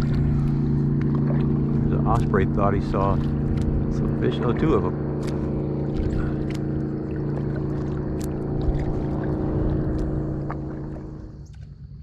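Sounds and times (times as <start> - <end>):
airboat engine and propeller: 0.0 - 12.0.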